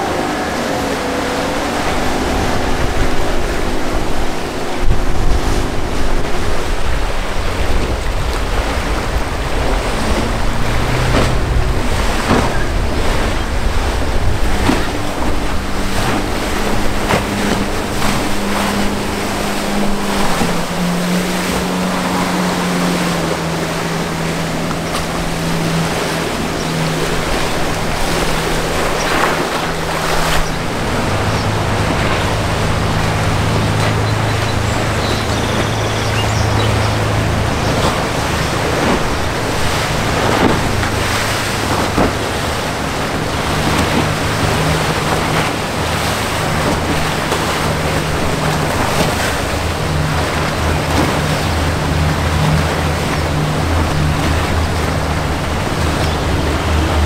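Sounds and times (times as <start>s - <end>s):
outboard motor droning: 0.0s - 57.0s
water rushing and splashing: 0.0s - 57.0s
wind buffeting microphone: 0.0s - 57.0s.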